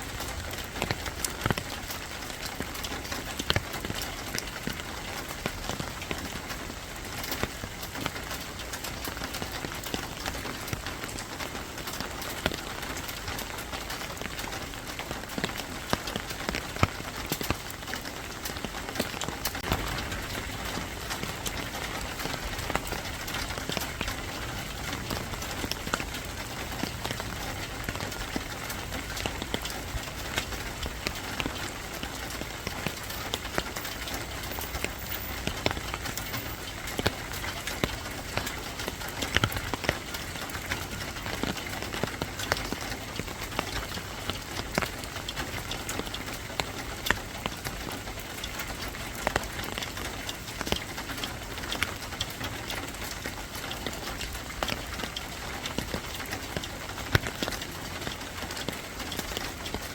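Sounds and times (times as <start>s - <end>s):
rain drops pattering on hard surface: 0.0s - 59.9s.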